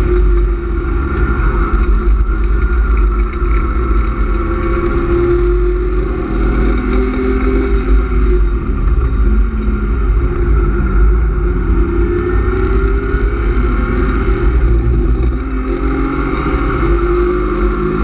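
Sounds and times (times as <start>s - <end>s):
car engine revving: 0.0s - 18.0s
road rumble: 0.0s - 18.0s.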